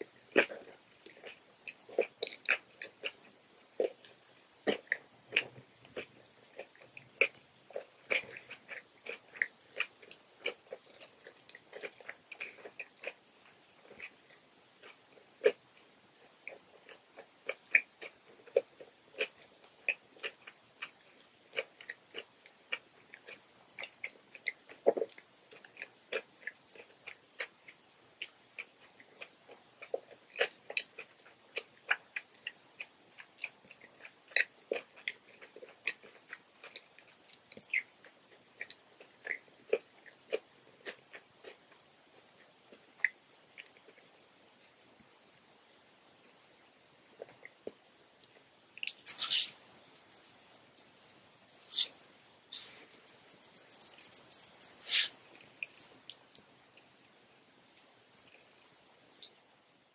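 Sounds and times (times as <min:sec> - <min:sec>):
person chewing wet crunches: 0:00.1 - 0:44.9, 0:47.1 - 0:57.0.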